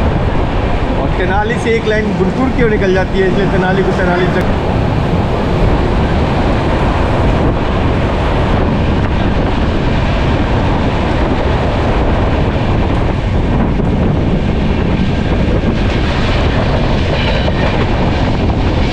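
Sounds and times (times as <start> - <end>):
train running noise: 0.0 - 18.9
wind buffeting the microphone: 0.0 - 18.9.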